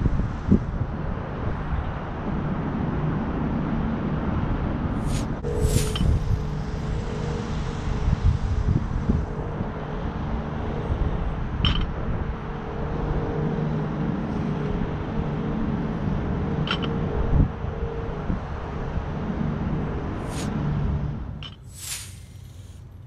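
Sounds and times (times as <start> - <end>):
distant road traffic rumble: 0.0 - 23.0.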